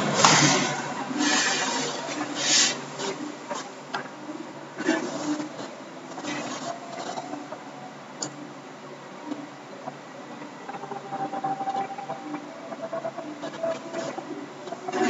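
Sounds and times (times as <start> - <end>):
faint hum: 0.0 - 15.0
microphone hiss: 0.0 - 15.0.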